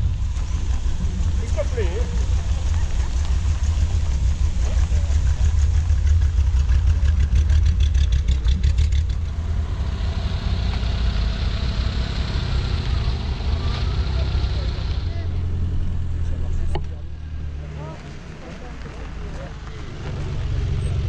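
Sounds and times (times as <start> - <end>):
car engine exhaust rumble: 0.0 - 21.0
car rolling by with hiss: 0.0 - 21.0.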